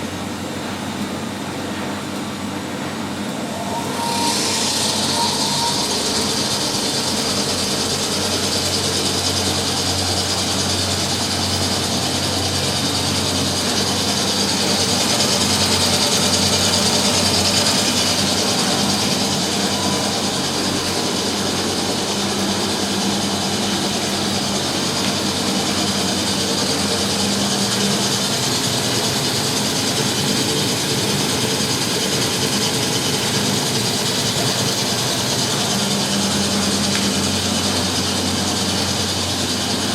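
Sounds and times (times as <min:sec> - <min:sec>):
washing machines spinning: 0:00.0 - 0:39.9.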